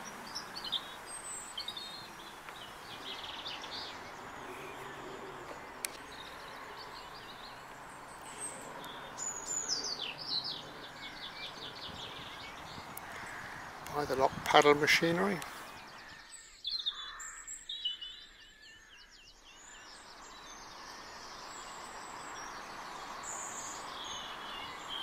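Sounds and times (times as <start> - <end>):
faint outdoor hiss: 0.0 - 25.0
songbirds singing: 0.0 - 25.0.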